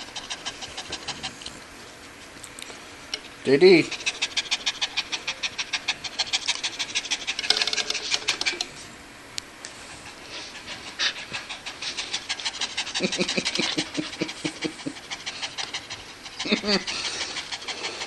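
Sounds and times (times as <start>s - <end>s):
dog panting: 0.0s - 2.4s, 3.5s - 8.7s, 9.7s - 18.0s.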